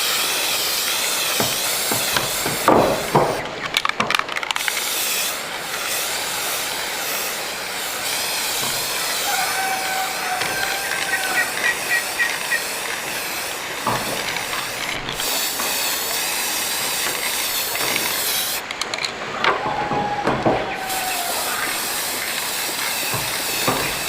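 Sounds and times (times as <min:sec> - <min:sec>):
arc welding hiss: 0:00.0 - 0:03.6, 0:04.4 - 0:18.8, 0:19.6 - 0:24.0.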